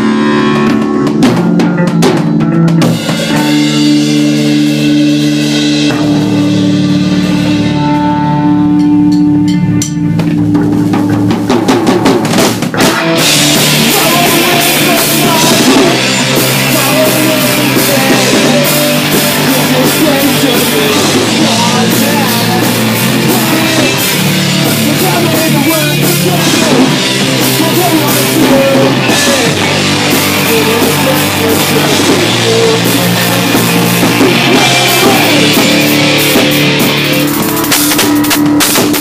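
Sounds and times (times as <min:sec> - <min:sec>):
drum kit: 0:00.0 - 0:39.0
electric bass: 0:00.0 - 0:39.0
electric guitar: 0:00.0 - 0:39.0
punk band playing live: 0:00.0 - 0:39.0.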